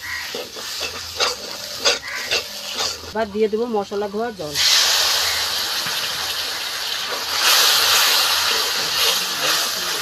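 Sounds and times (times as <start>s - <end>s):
spice paste sizzling in hot oil: 0.0s - 10.0s.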